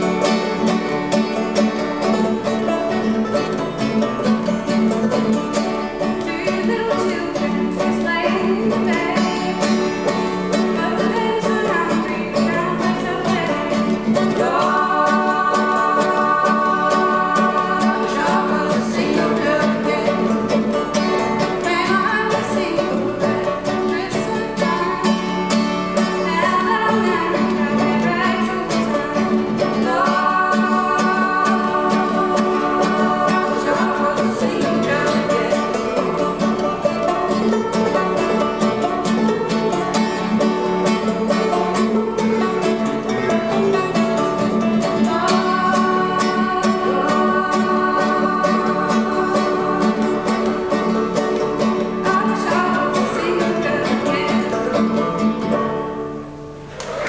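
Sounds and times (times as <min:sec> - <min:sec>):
person singing: 0:00.0 - 0:55.7
acoustic guitar: 0:00.0 - 0:57.0
banjo: 0:00.0 - 0:57.0.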